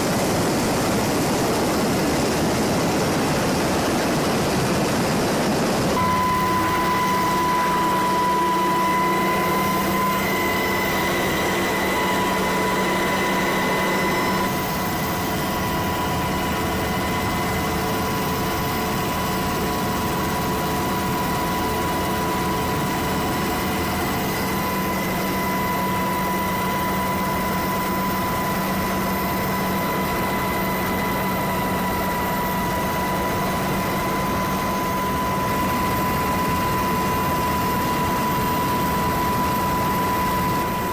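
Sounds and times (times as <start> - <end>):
helicopter turbine and rotor noise: 0.0 - 40.9
high whine: 5.5 - 40.9.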